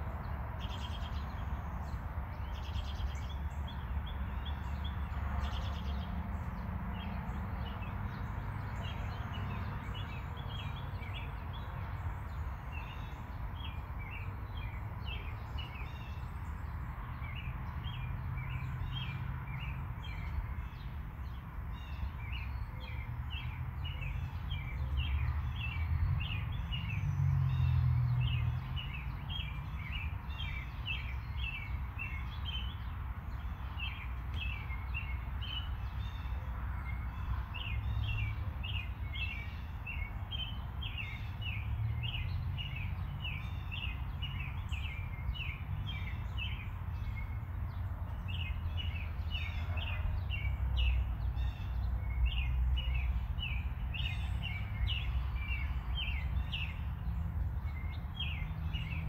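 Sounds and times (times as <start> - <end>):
birds chirping: 0.6 - 59.0.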